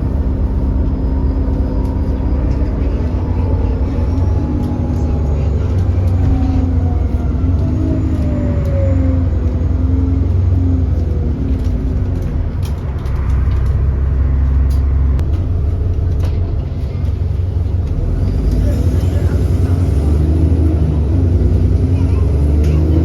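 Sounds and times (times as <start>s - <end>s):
diesel bus engine drone: 0.0s - 23.0s
drivetrain whine: 0.0s - 23.0s.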